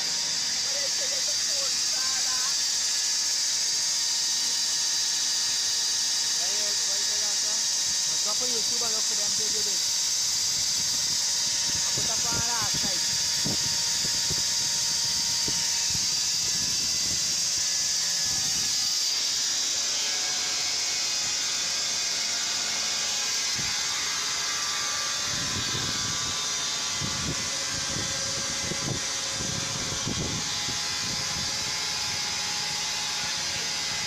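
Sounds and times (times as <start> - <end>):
sawmill machinery whirring: 0.0 - 34.0.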